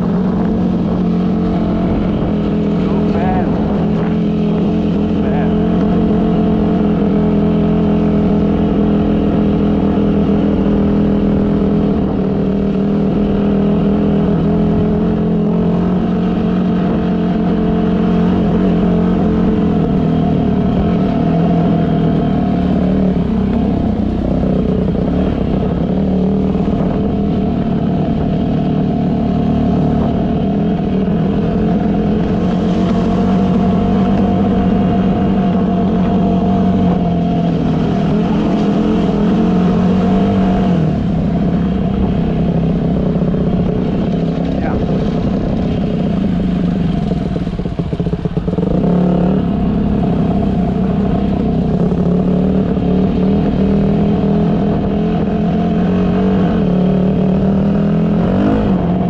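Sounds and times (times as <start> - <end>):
dirt bike engine running: 0.0 - 59.0
low rumble: 0.0 - 59.0.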